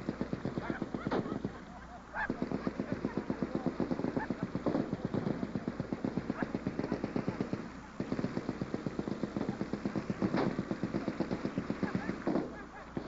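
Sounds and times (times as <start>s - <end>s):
machine-gun fire: 0.0s - 13.0s.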